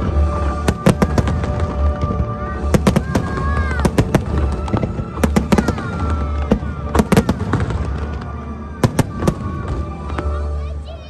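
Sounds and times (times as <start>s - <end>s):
fireworks bursting: 0.0s - 10.8s.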